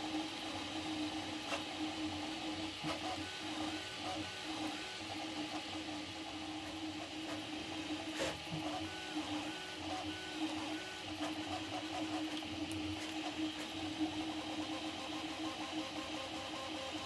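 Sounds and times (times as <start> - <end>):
printer stepper motors whining: 0.0 - 17.0.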